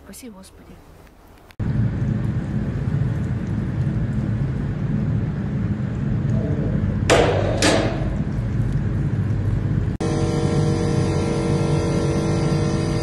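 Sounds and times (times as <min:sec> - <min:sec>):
foundry low rumble: 0:01.5 - 0:13.0.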